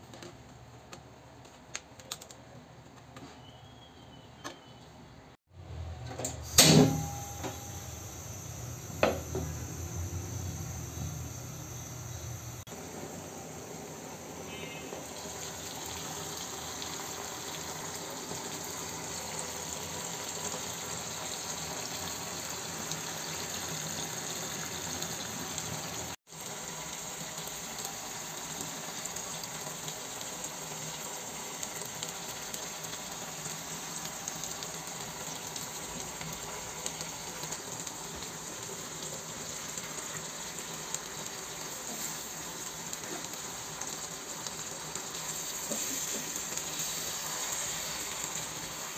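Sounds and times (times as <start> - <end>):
food sizzling in a pan: 6.6 - 48.9.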